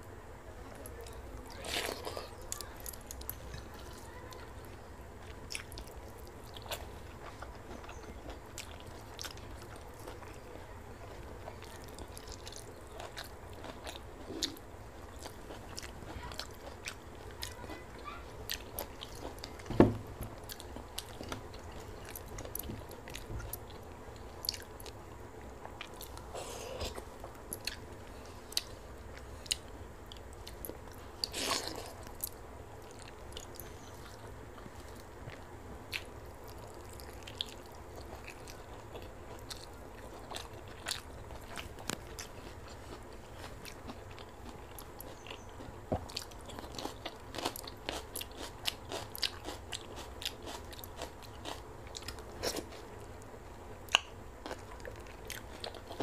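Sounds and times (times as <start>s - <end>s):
woman chewing food: 0.7s - 10.4s, 11.0s - 56.0s.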